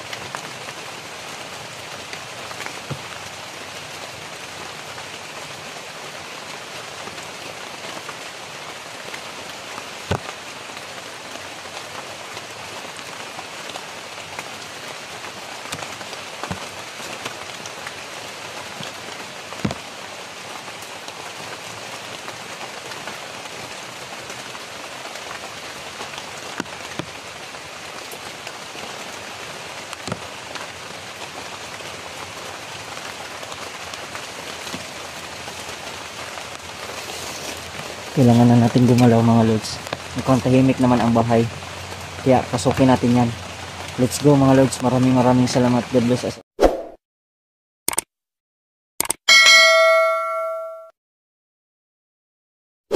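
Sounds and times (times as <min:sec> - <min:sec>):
rain on leaves: 0:00.0 - 0:46.4.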